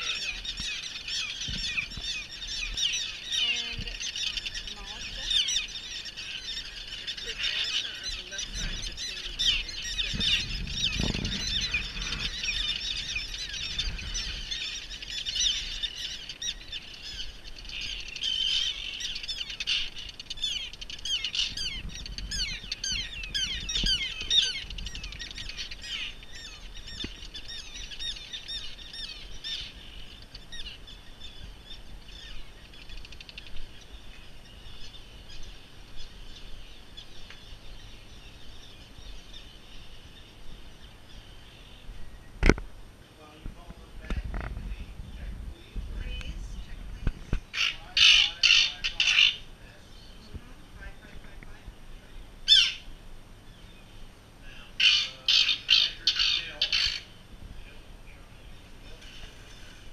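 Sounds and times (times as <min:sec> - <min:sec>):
terns calling: 0:00.0 - 0:59.9.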